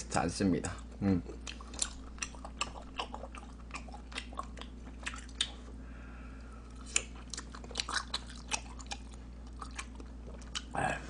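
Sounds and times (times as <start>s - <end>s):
wet chewing clicks and smacks: 0.8s - 5.7s, 6.7s - 10.8s.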